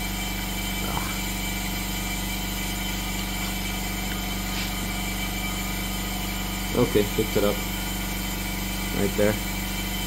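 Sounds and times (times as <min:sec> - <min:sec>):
machine hum with tones: 0:00.0 - 0:10.0.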